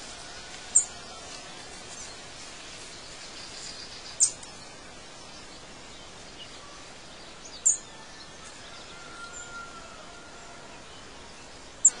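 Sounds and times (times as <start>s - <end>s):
birds chirping: 0.0s - 12.0s
steady background hiss: 0.0s - 12.0s.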